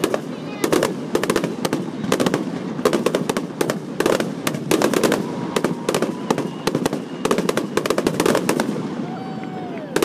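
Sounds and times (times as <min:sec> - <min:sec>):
fireworks bursting with bangs: 0:00.0 - 0:10.0.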